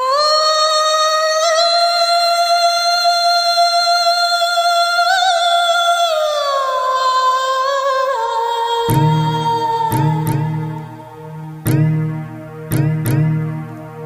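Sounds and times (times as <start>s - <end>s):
woman singing unaccompanied: 0.0s - 11.7s.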